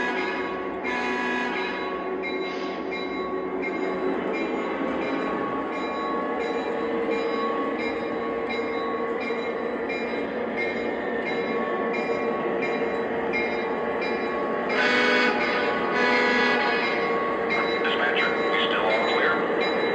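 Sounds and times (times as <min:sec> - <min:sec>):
model train running: 0:00.0 - 0:19.9.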